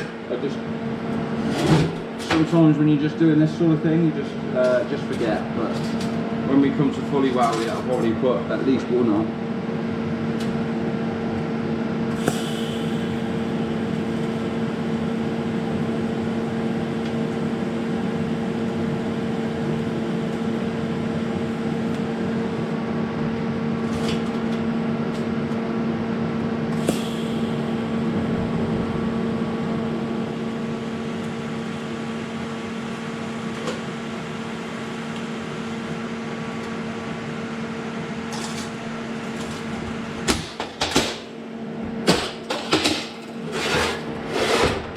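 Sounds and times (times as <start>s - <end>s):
electric machine hum: 8.2s - 44.6s.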